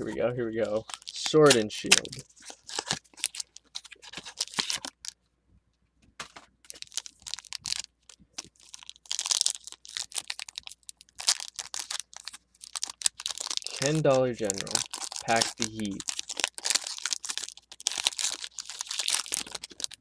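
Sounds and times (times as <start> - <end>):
foil wrapper crinkling and tearing: 0.7 - 5.2, 6.6 - 20.0.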